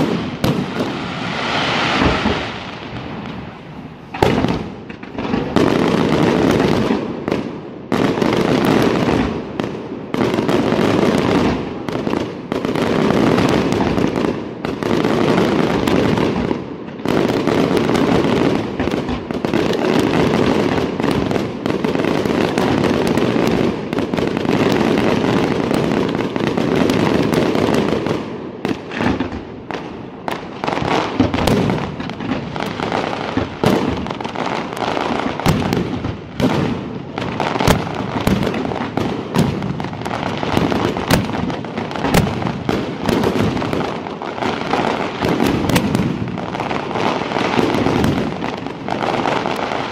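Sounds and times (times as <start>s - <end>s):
fireworks bursting and crackling: 0.0s - 49.9s.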